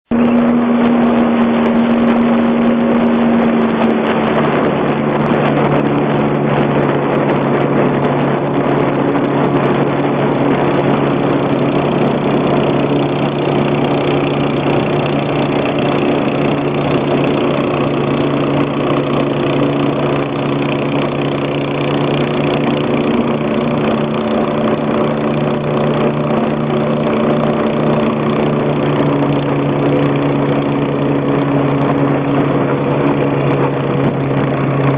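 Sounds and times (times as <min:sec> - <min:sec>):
speedboat engine running: 0:00.0 - 0:34.9.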